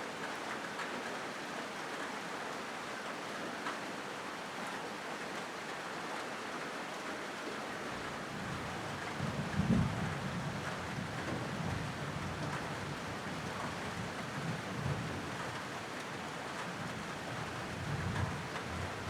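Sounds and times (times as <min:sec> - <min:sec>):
rain on a metal roof: 0:00.0 - 0:19.0.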